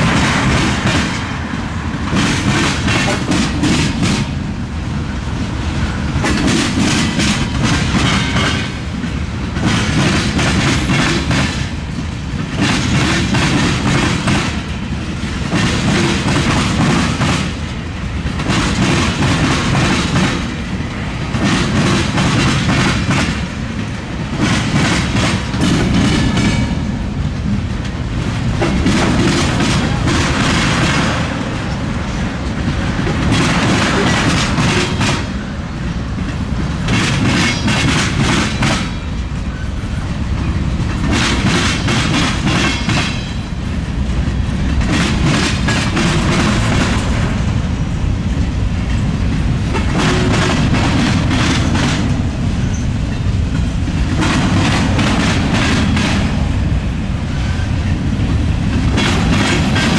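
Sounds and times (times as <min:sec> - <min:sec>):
train rumble: 0:00.0 - 0:59.9
train wheels clattering: 0:00.0 - 0:59.9.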